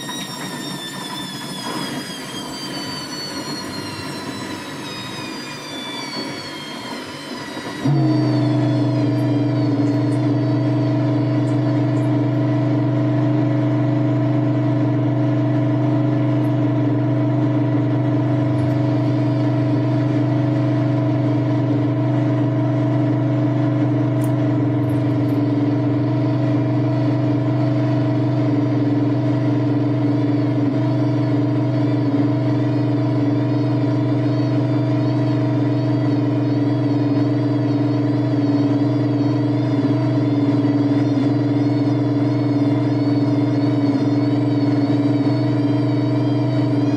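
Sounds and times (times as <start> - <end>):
washing machine falling whine: 0.0 - 46.9
washing machine hum: 0.0 - 46.9.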